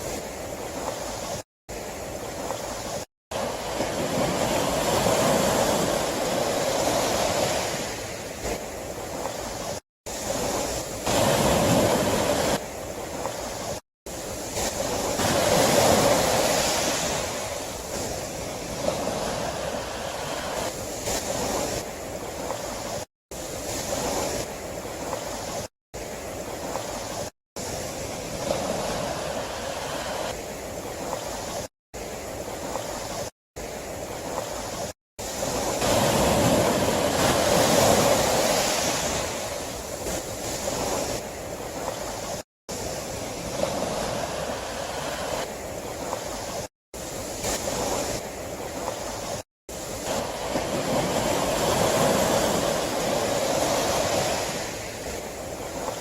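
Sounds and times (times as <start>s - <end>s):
sea waves breaking ashore: 0.0s - 56.0s.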